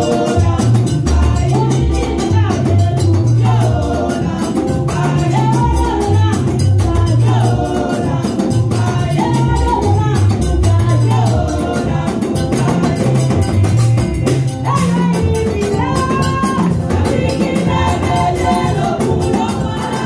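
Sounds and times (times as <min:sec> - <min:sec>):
band with bass line: 0:00.0 - 0:20.0
quick steady percussion beat: 0:00.0 - 0:20.0
women singing gospel: 0:00.0 - 0:20.0.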